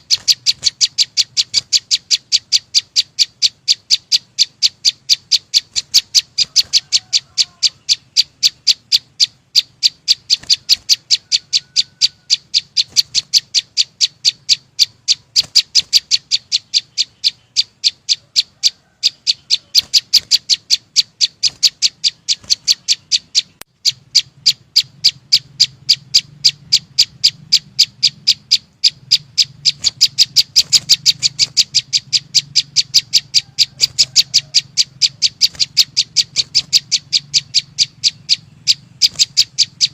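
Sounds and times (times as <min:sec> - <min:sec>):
songbird chip notes: 0:00.0 - 0:39.9.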